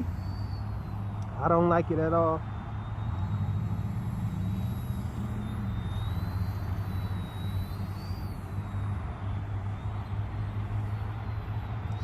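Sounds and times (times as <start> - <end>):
steady low rumble: 0.0 - 12.0
toy helicopter motor whining: 0.0 - 12.0.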